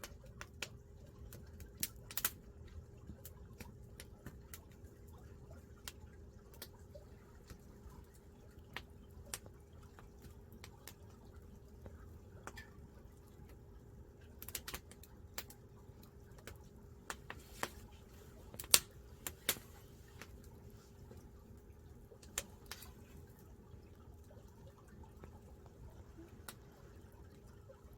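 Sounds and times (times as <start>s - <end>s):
firewood crackling and popping: 0.0s - 27.8s.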